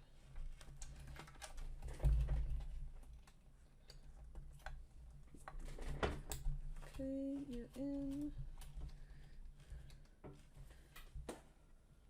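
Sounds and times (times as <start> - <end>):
wiring rustling: 0.2 - 11.5.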